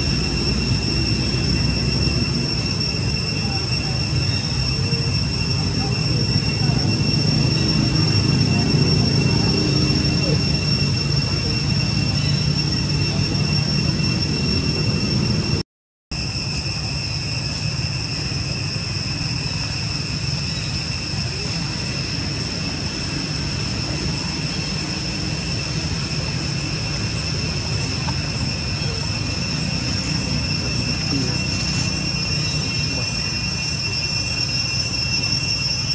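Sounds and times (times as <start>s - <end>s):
constant high whine: 0.0s - 35.9s.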